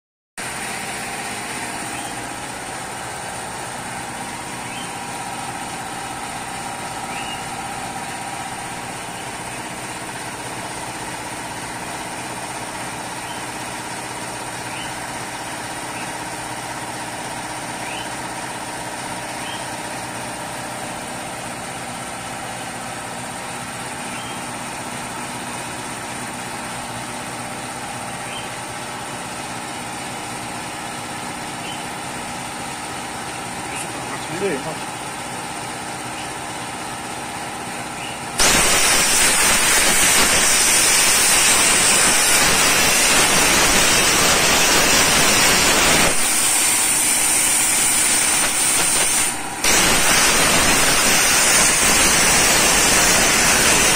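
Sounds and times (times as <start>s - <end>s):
machine hum and hiss: 0.4s - 53.9s.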